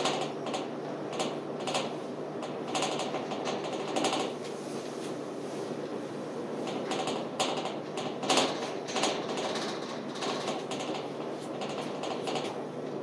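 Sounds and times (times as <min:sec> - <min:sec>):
irregular clicks and rattles: 0:00.0 - 0:05.1, 0:06.6 - 0:13.0
low hum of ship machinery: 0:00.0 - 0:13.0.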